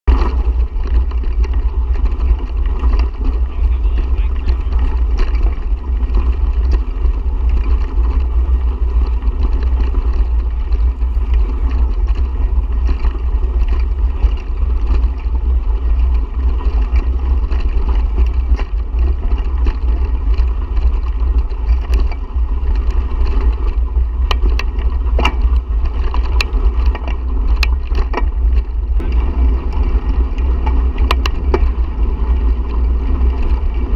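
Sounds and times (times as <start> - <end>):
bicycle tyre and road noise: 0.0 - 33.9
sharp rattles: 0.1 - 33.9
wind buffeting microphone: 0.1 - 33.9.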